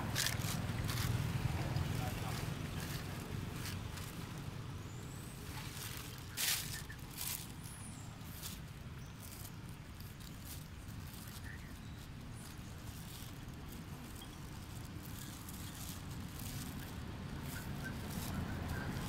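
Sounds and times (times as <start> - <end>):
sharp rustles: 0.0 - 4.5, 5.3 - 19.0
faint clicks and rustles: 0.0 - 19.0
low outdoor rumble: 0.0 - 19.0.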